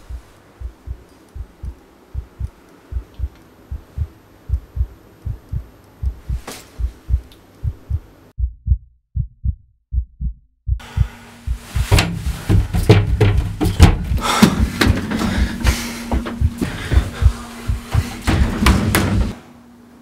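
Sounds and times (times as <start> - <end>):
heartbeat thumps: 0.0 - 19.0.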